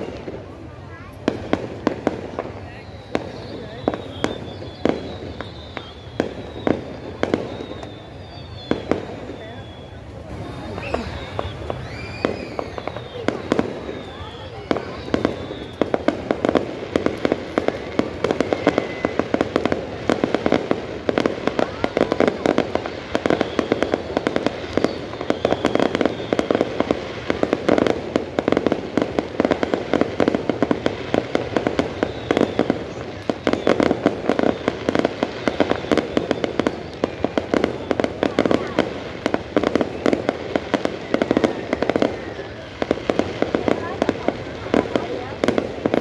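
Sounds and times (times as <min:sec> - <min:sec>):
faint firework whistles: 0:00.0 - 0:46.0
fireworks bangs and crackling: 0:00.0 - 0:46.0.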